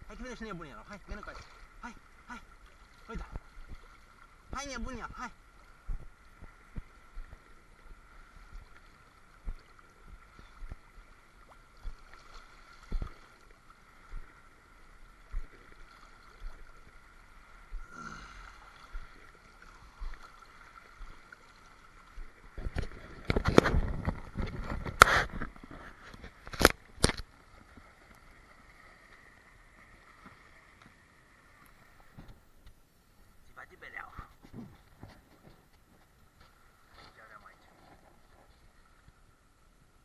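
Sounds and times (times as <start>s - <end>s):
water lapping against camera: 0.0s - 39.8s.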